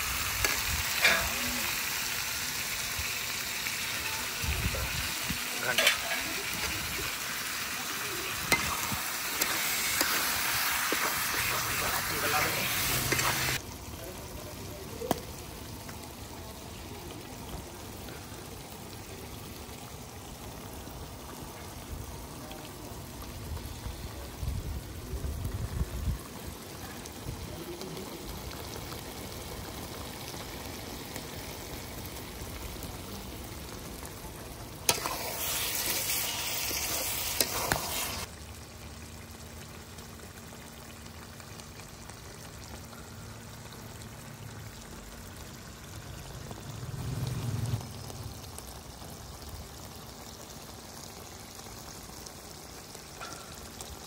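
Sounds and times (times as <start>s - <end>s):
curry sizzling in a pan: 0.0s - 54.0s.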